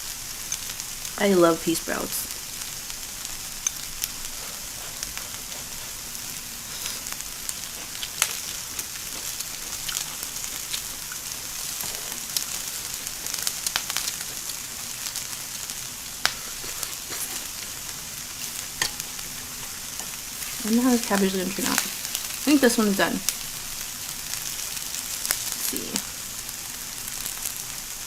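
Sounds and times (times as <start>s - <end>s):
food sizzling on grill: 0.0s - 28.0s.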